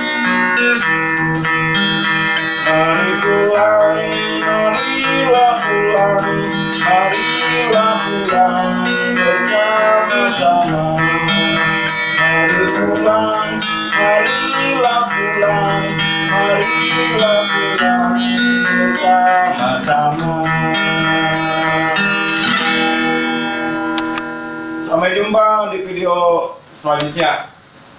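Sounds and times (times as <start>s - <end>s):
guitar strummed through amplifier: 0.0s - 27.8s.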